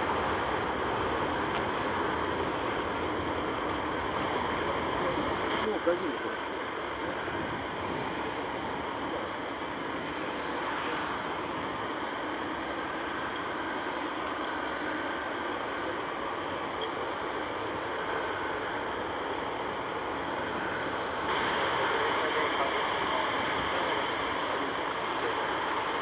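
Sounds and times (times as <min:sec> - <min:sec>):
distant jet engines taxiing: 0:00.0 - 0:26.0.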